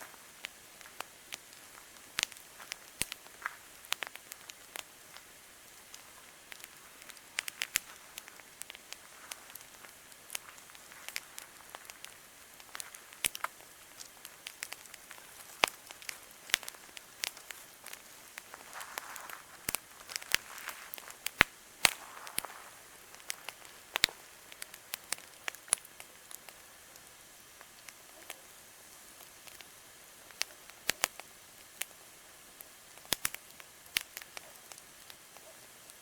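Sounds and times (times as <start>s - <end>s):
campfire pops and snaps: 0.0s - 36.0s
faint fire hiss: 0.0s - 36.0s.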